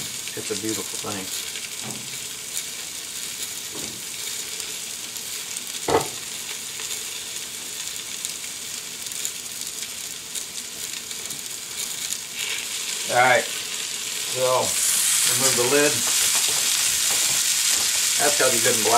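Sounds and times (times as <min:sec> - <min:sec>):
potatoes sizzling in a skillet: 0:00.0 - 0:18.9.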